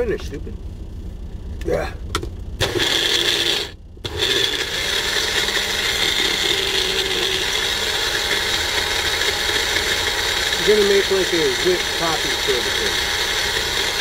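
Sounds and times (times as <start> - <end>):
blender motor whirring: 2.6 - 14.0.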